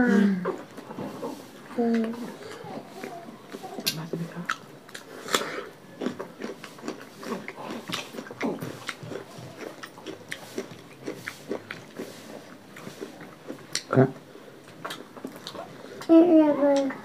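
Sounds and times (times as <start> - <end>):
wet chewing and lip-smacking: 0.5 - 16.1.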